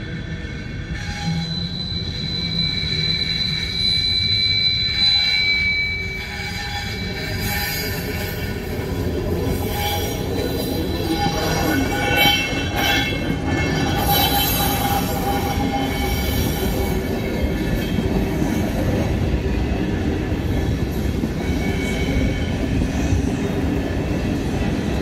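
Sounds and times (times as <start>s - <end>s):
train rumble and clatter: 0.0s - 25.0s
train wheels squealing: 0.0s - 25.0s.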